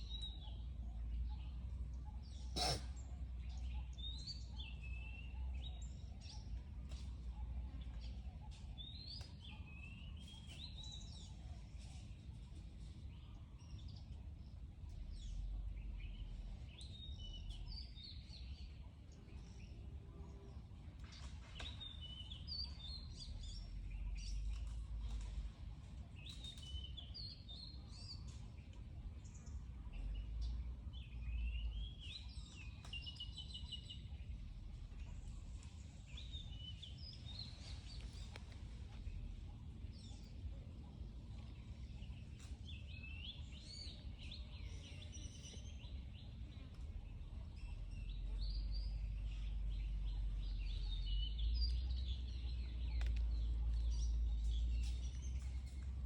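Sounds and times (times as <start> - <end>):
steady low rumble: 11.0 - 56.0.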